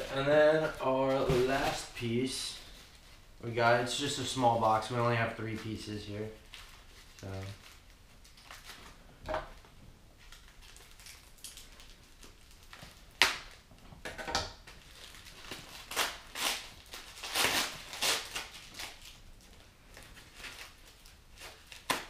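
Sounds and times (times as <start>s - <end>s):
packing paper crinkling: 0.0s - 9.2s, 10.2s - 13.7s, 14.6s - 22.0s.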